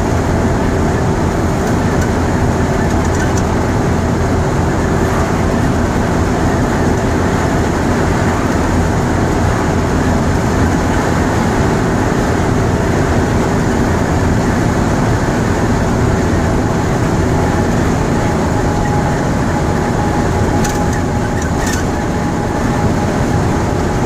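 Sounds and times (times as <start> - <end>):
diesel bus engine running: 0.0 - 24.0
road and tyre noise: 0.0 - 24.0.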